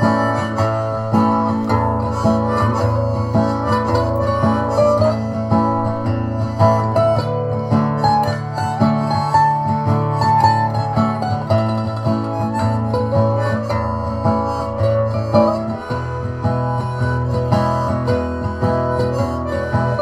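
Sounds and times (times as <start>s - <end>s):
acoustic guitar: 0.0s - 20.0s
banjo: 0.0s - 20.0s.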